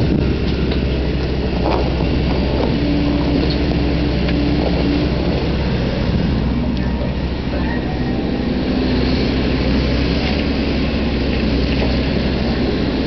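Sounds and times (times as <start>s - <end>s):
steady higher tone: 0.0s - 11.3s
excavator diesel engine running: 0.0s - 13.0s.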